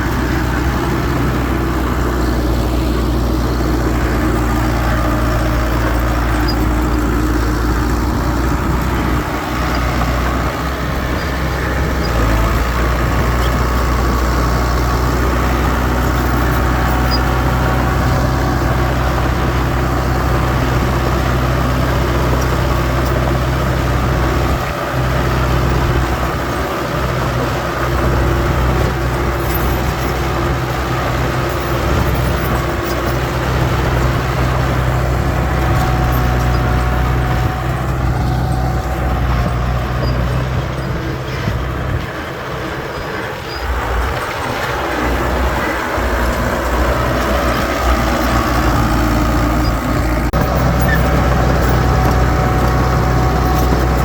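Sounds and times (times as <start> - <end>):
heavy machinery diesel engines running: 0.0 - 54.0.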